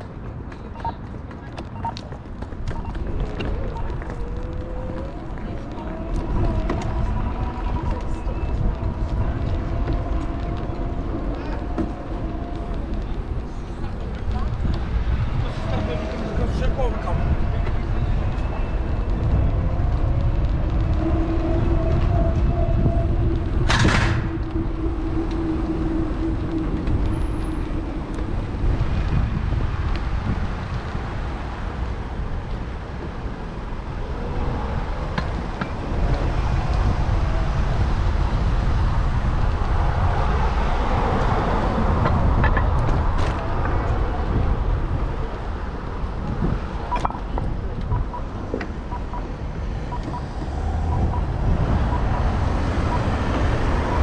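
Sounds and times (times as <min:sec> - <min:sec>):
road traffic passing: 0:00.0 - 0:54.0
wind buffeting microphone: 0:00.0 - 0:54.0.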